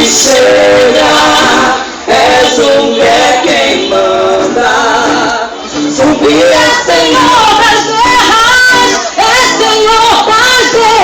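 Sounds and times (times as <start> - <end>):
backing music: 0.0 - 10.1
vocal group singing: 0.0 - 10.9.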